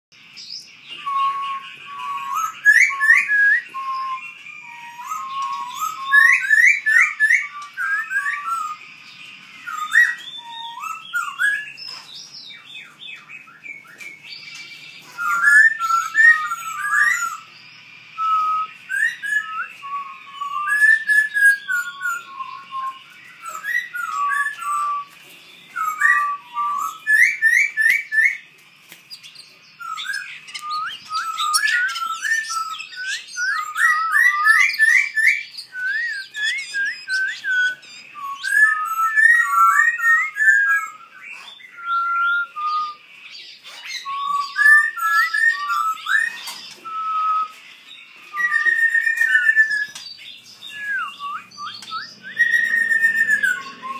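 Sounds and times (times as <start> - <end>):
high bird chirps: 0.2 - 53.9
songbirds singing: 0.2 - 53.9.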